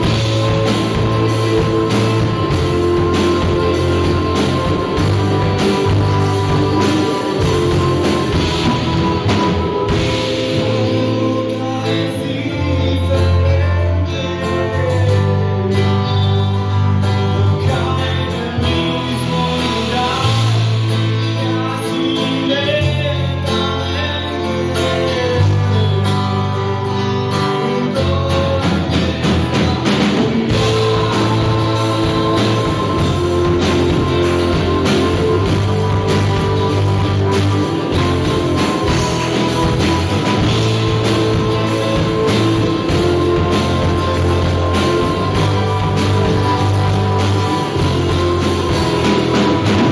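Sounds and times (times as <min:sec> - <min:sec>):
bass line: 0:00.0 - 0:49.9
drums: 0:00.0 - 0:49.9
electric guitars: 0:00.0 - 0:49.9.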